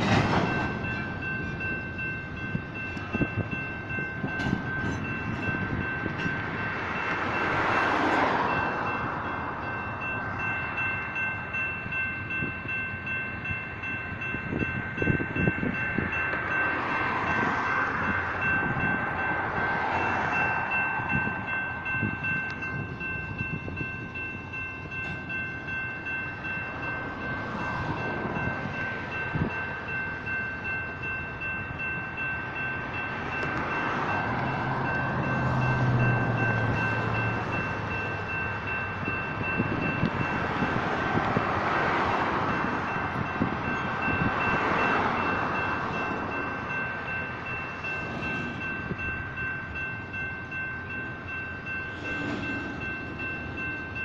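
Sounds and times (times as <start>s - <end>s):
crossing signal electronic bells: 0.0s - 54.0s
freight train wheels rumbling on rail: 0.0s - 54.0s.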